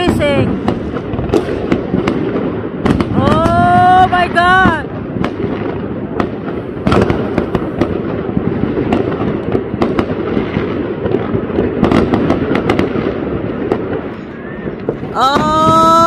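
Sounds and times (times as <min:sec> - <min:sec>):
distant firework crackle: 0:00.0 - 0:16.0
sharp firework bangs: 0:00.0 - 0:16.0.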